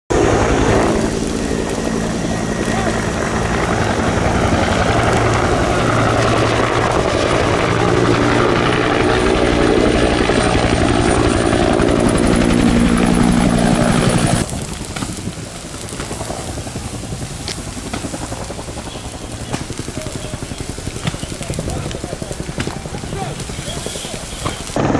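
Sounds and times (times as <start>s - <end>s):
helicopter flying overhead: 0.1s - 24.9s.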